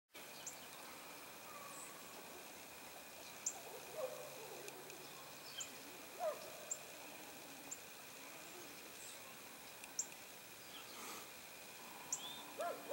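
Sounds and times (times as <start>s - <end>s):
lower bird calls: 0.2s - 11.3s, 11.9s - 12.9s
steady faint hiss: 0.2s - 12.9s.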